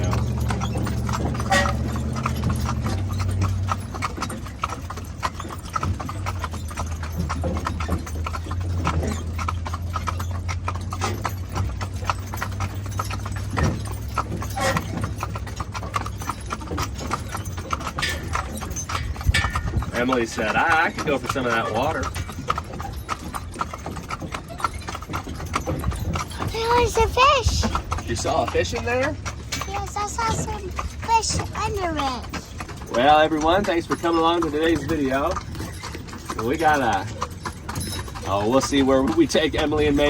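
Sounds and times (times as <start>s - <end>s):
hooves clip-clopping: 0.0s - 40.0s.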